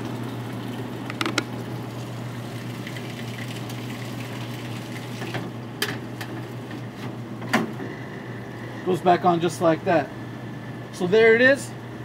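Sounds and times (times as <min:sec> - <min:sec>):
swamp cooler humming: 0:00.0 - 0:12.0.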